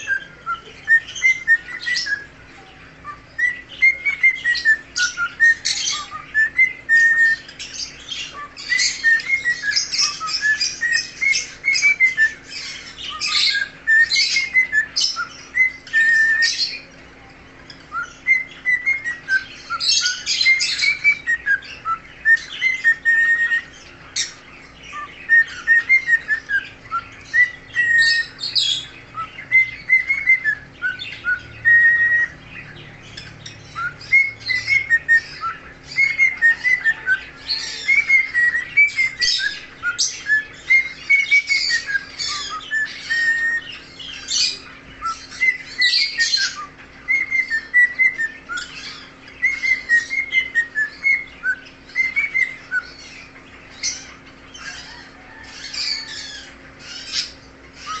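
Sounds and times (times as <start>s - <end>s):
cockatiel whistling and chirping: 0.0s - 17.0s, 17.7s - 58.0s.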